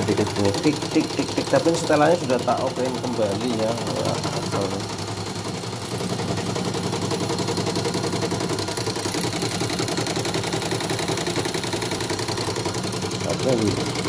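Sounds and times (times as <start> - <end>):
embroidery machine stitching rattle: 0.0 - 14.0.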